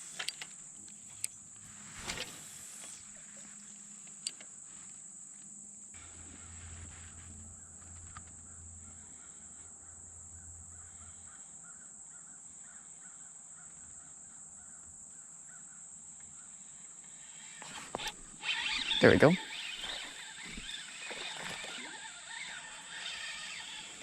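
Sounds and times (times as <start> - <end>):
high-pitched insect drone: 2.0 - 13.3, 14.6 - 24.0.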